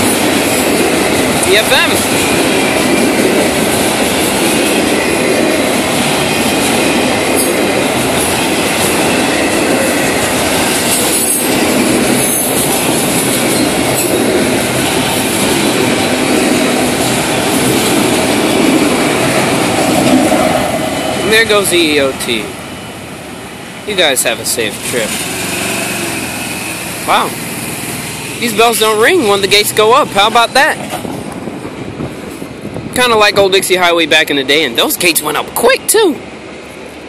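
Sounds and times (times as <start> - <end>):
steel wheels on rails: 0.0 - 23.0, 23.6 - 37.0.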